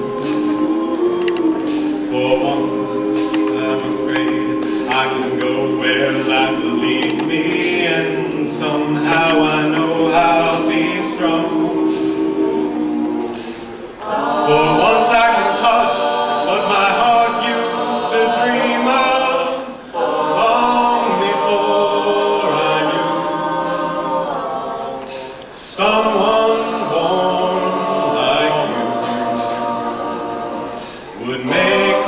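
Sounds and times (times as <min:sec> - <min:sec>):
male a cappella group singing: 0:00.0 - 0:32.0.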